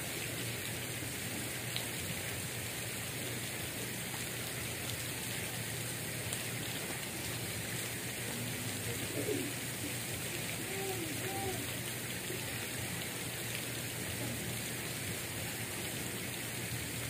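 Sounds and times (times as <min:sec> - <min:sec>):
hiss of falling water: 0:00.0 - 0:17.0.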